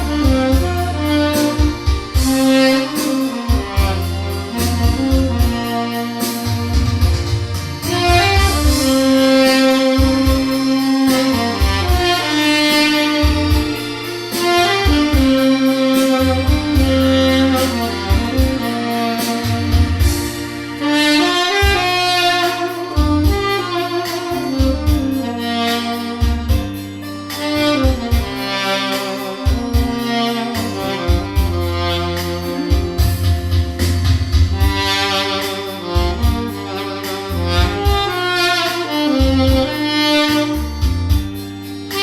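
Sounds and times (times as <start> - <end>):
backing track with bass and drums: 0.0 - 42.0
tenor saxophone melody: 0.0 - 42.0.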